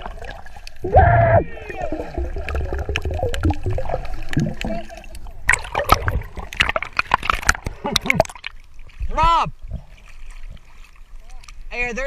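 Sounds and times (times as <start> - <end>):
water gurgling and churning: 0.0 - 11.7
sharp water splashes: 1.8 - 11.7.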